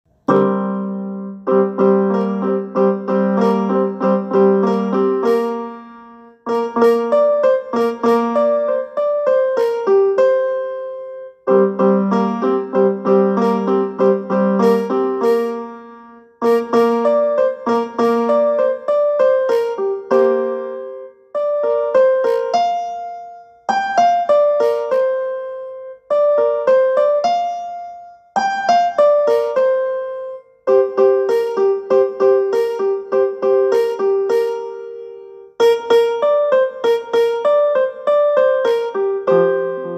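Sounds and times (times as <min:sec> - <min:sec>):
piano-like phone ringtone: 0:00.3 - 0:39.9.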